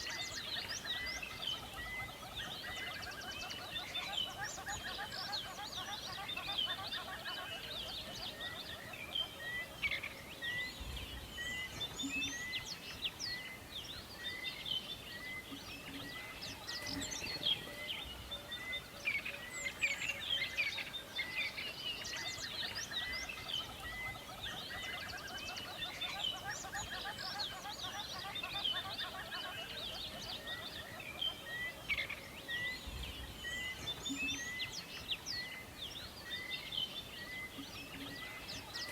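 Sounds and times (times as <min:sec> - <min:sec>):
faint background hiss: 0:00.0 - 0:38.9
songbird chorus: 0:00.0 - 0:38.9.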